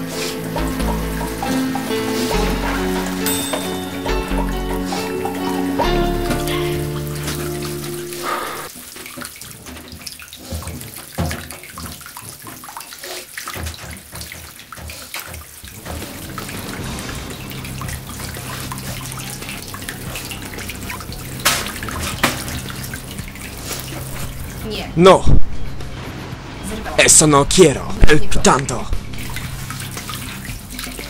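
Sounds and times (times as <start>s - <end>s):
bathwater sloshing and splashing: 0.0s - 24.8s, 28.9s - 31.0s.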